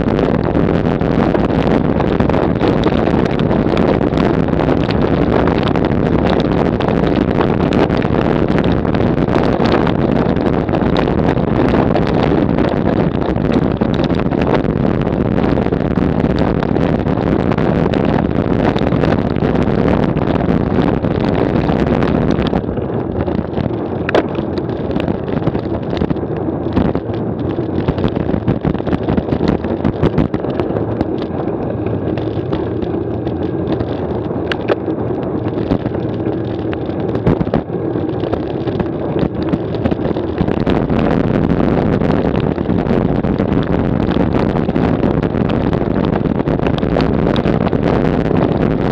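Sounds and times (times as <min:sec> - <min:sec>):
bike rattling over cobblestones: 0:00.0 - 0:48.9
wind on microphone: 0:00.0 - 0:48.9.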